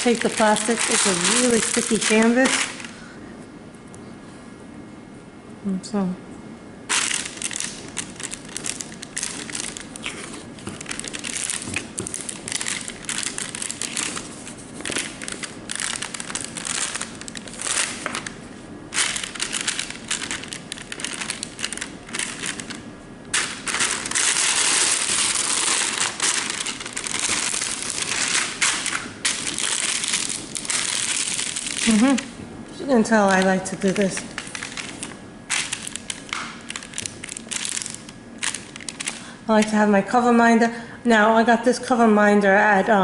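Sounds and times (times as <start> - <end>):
plastic film crinkling: 0.0 - 3.1, 6.9 - 39.8.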